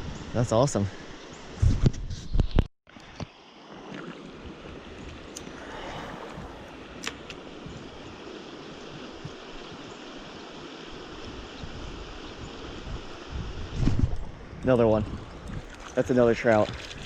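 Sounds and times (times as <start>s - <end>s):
creek water flowing: 3.0s - 17.0s.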